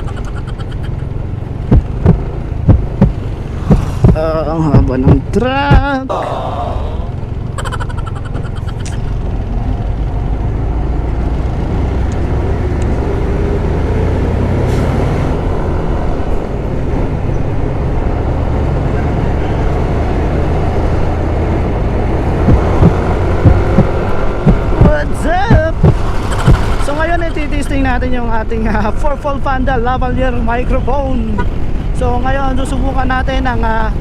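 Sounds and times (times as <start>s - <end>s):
faint drifting hum: 0.0s - 28.2s
wind and motorcycle engine rumble: 0.0s - 34.0s.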